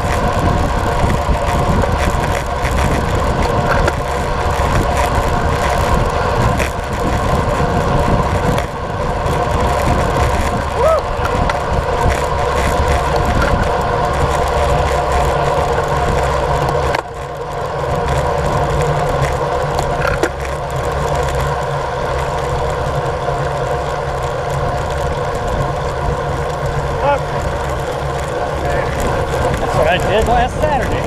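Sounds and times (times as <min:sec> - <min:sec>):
bike tyres humming on asphalt: 0:00.0 - 0:31.0
wind rushing over microphone: 0:00.0 - 0:31.0.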